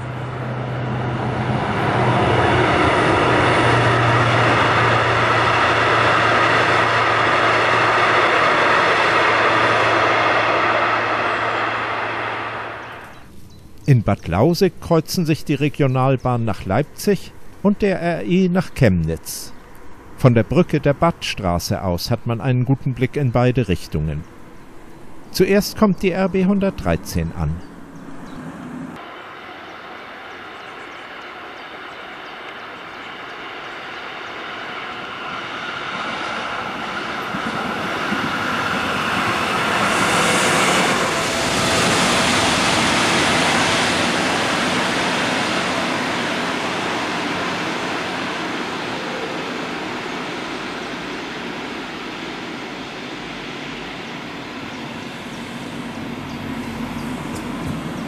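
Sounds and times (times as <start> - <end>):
diesel train passing: 0.0 - 58.0.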